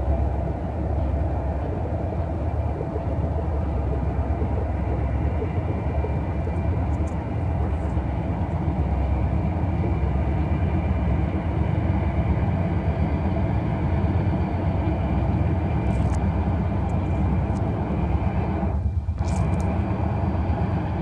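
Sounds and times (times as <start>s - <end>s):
diesel locomotives rumbling: 0.0s - 21.0s
faint whine: 0.0s - 21.0s.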